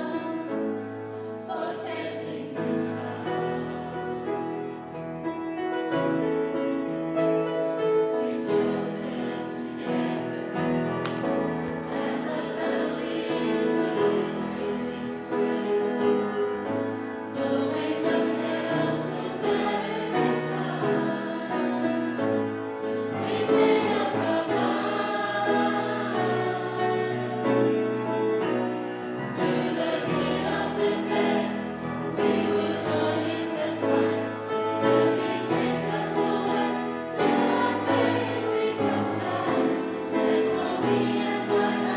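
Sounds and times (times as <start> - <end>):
choir singing gospel song: 0.0 - 5.2, 8.0 - 41.9.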